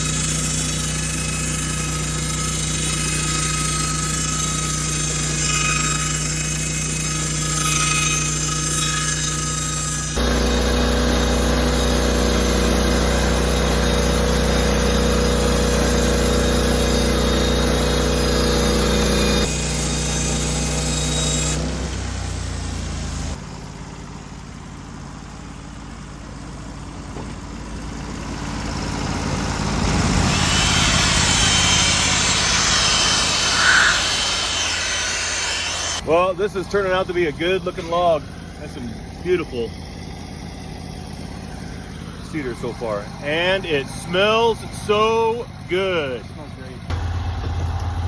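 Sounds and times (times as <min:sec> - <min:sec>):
sawmill engine running: 0:00.0 - 0:48.0.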